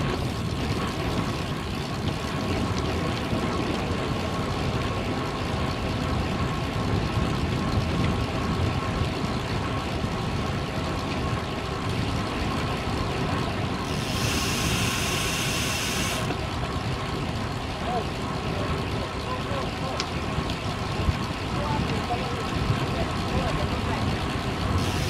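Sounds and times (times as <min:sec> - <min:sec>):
bicycle road noise: 0:00.0 - 0:25.0.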